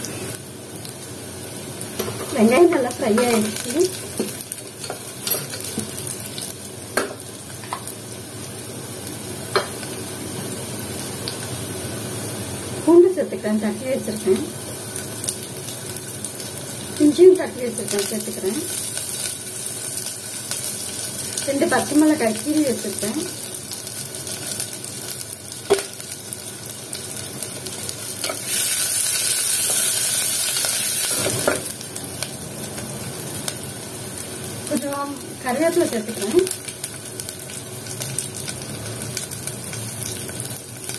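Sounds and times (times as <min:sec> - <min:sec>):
onions sizzling in oil: 0:00.0 - 0:40.9.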